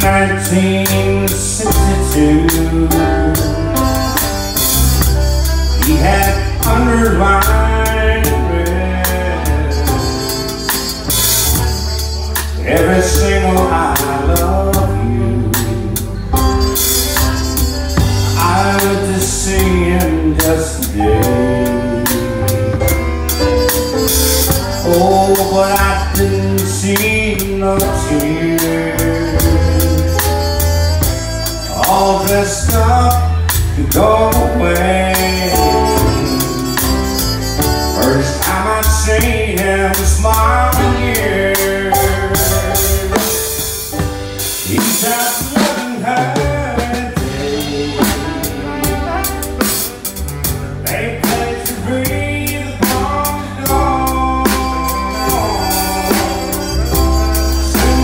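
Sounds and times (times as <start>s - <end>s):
man singing into microphone: 0.0s - 49.4s, 50.4s - 58.0s
drum kit: 0.0s - 58.0s
keyboard: 0.0s - 58.0s.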